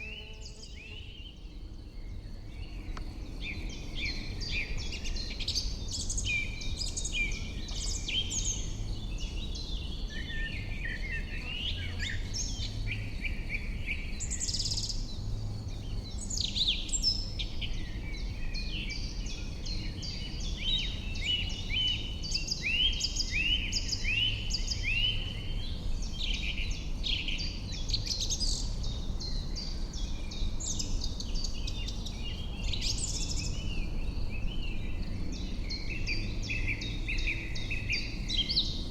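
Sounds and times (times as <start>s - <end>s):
songbirds chorus: 0.0s - 38.9s.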